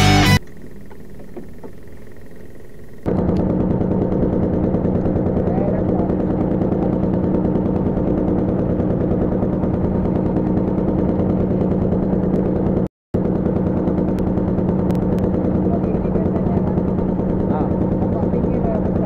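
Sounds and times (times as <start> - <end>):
boat engine chugging: 0.6 - 19.0.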